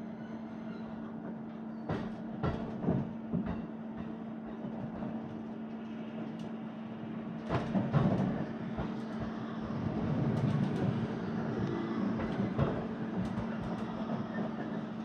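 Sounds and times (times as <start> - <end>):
electric train running hum: 0.0 - 15.0
train wheel knocks: 1.2 - 6.6, 7.4 - 15.0.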